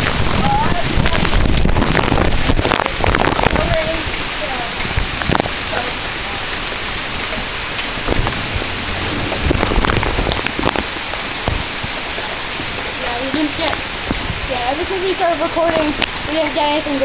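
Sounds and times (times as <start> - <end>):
heavy rain pouring: 0.0 - 17.0
raindrops tapping nearby: 0.0 - 17.0.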